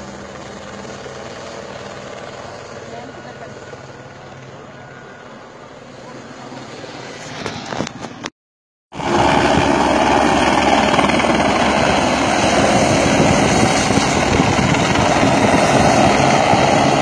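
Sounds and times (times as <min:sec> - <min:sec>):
helicopter rotor and engine: 0:00.0 - 0:08.3, 0:08.9 - 0:17.0.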